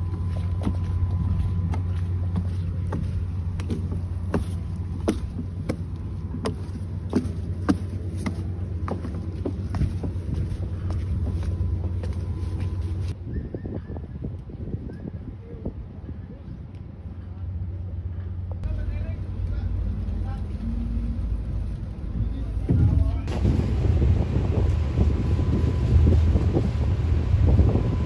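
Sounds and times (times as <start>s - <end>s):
low engine hum: 0.0s - 13.2s, 15.8s - 28.0s.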